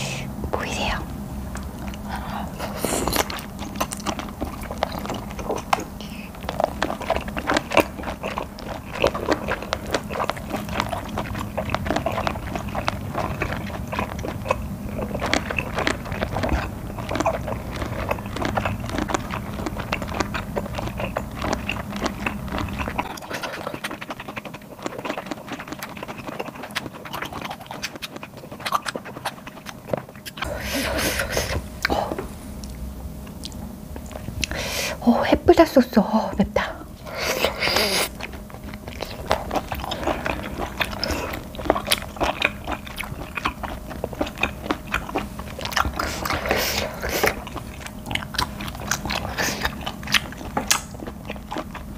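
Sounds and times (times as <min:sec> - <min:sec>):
wet chewing clicks: 0:00.6 - 0:34.6, 0:36.5 - 0:51.9.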